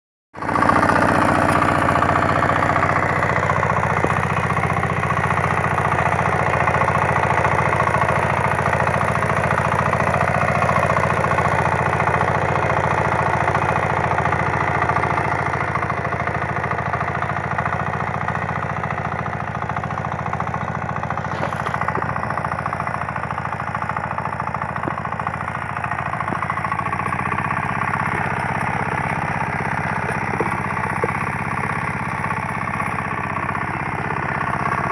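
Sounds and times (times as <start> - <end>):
diesel engine running: 0.4 - 34.9.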